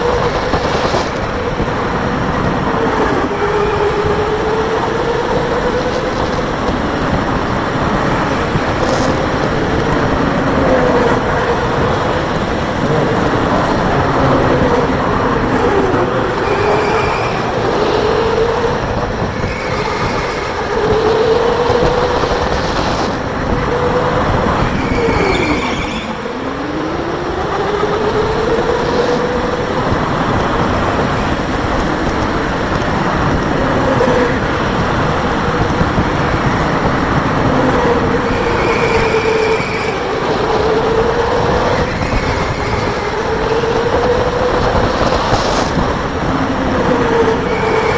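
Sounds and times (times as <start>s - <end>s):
electric kart motor whine: 0.0s - 47.9s
wind rushing: 0.0s - 47.9s.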